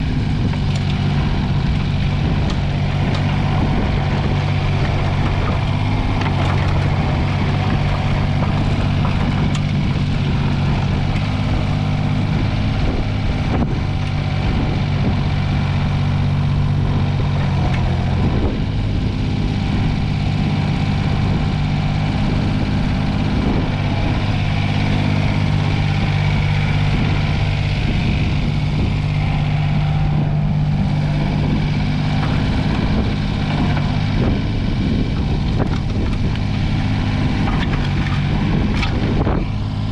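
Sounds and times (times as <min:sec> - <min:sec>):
small diesel engine running: 0:00.0 - 0:39.9.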